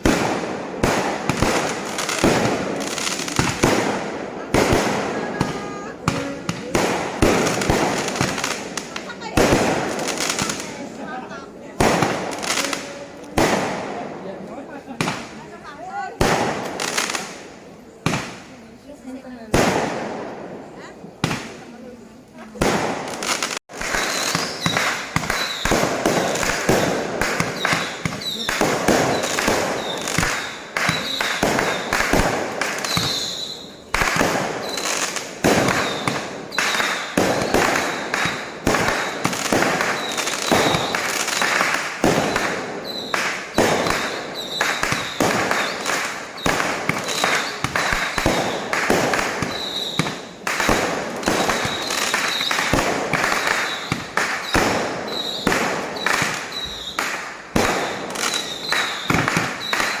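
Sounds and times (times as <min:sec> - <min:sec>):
fireworks bangs and crackle: 0:00.0 - 1:00.0.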